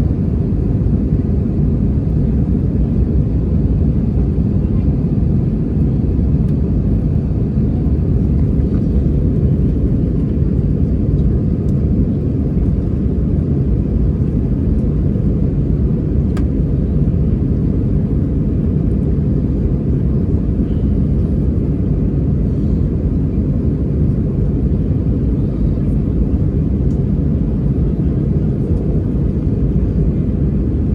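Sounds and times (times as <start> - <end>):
jet engine rumble in cabin: 0.0 - 30.9.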